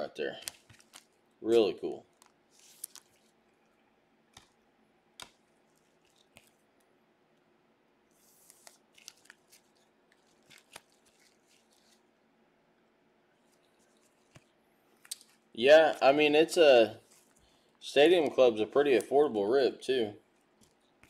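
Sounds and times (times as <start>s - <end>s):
faint rustling of cards: 0.0s - 21.0s.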